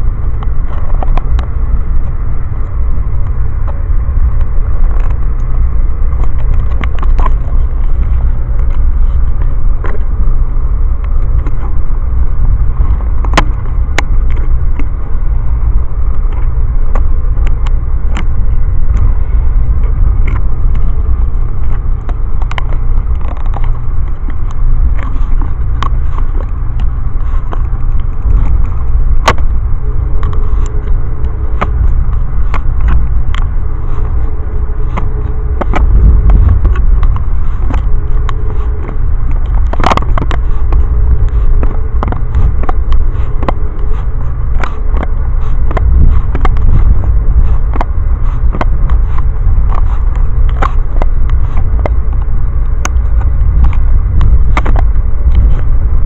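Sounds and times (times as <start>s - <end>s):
faint steady hum: 0.0s - 56.0s
sharp clicks and ticks: 0.0s - 56.0s.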